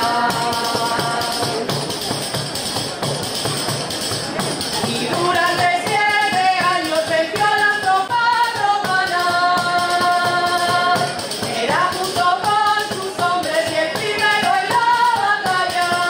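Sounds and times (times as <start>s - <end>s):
high folk melody: 0.0s - 16.0s
percussion beat: 0.0s - 16.0s.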